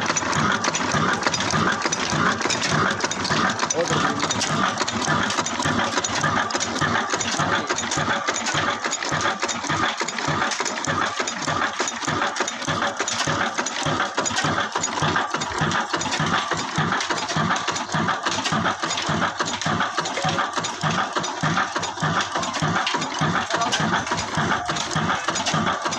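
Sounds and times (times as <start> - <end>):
diesel engine clattering: 0.0 - 25.9.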